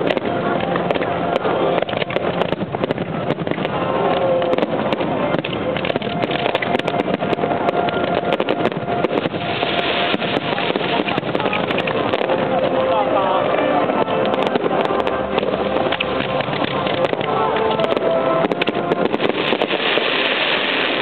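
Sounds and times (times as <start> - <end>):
continuous rumble: 0.0 - 21.0
fireworks pops and crackles: 0.0 - 21.0.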